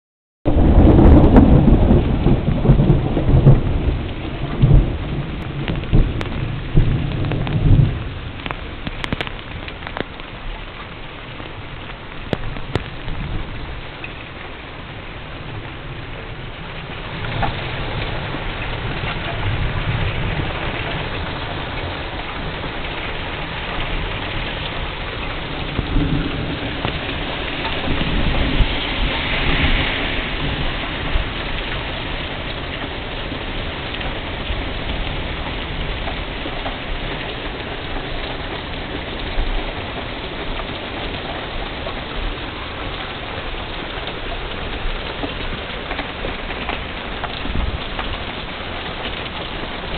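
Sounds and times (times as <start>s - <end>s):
heavy rain pouring: 0.5s - 49.9s
thunder rumbling: 0.5s - 49.9s.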